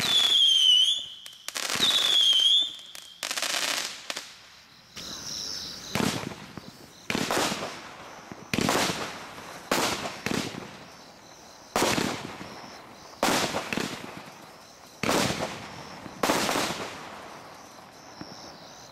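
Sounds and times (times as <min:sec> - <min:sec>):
firework bangs: 0:00.0 - 0:18.9.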